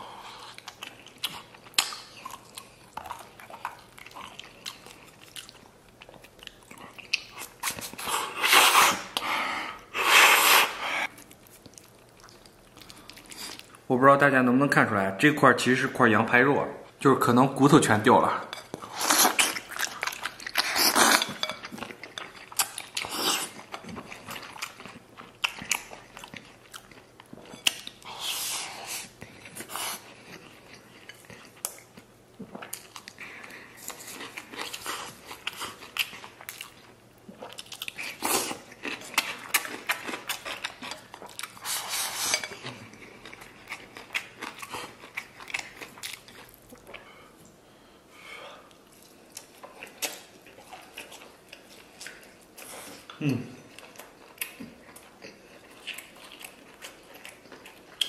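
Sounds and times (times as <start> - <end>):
person chewing food: 0.0 - 13.9, 18.6 - 47.9, 48.6 - 58.0.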